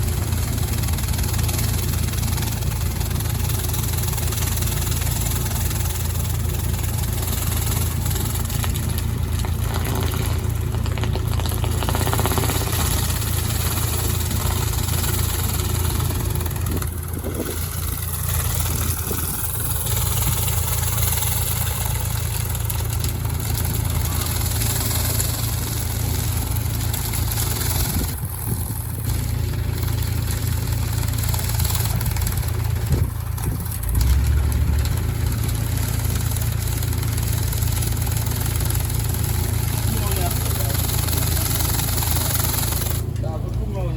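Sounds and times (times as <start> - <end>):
pressure washer engine humming: 0.0 - 43.9.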